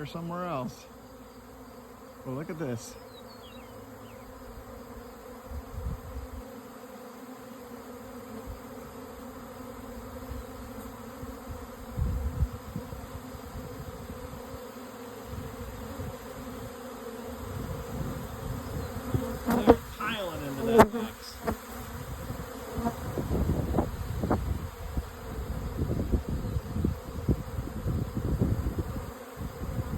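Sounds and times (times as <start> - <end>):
bee swarm buzzing: 0.0 - 29.9.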